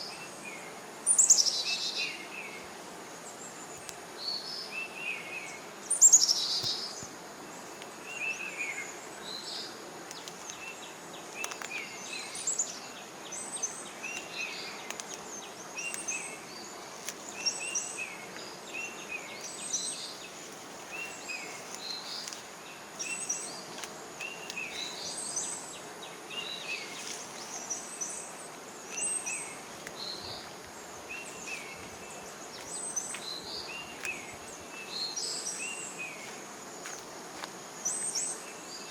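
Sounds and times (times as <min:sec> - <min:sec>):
soft hiss: 0:00.0 - 0:38.9
bird chirping: 0:03.4 - 0:37.0.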